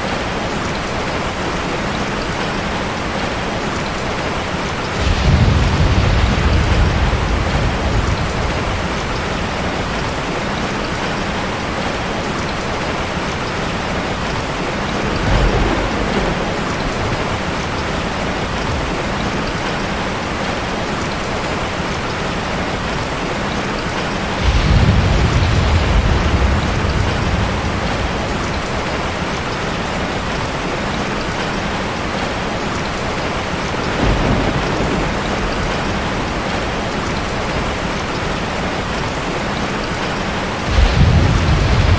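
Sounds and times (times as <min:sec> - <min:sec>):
heavy rain falling: 0:00.0 - 0:41.9
thunder rumbling: 0:03.0 - 0:41.9.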